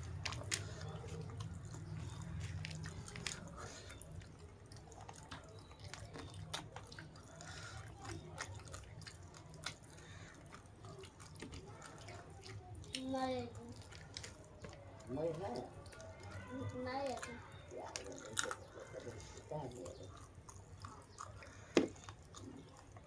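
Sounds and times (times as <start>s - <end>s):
chewing and mouth clicks: 0.0s - 23.0s.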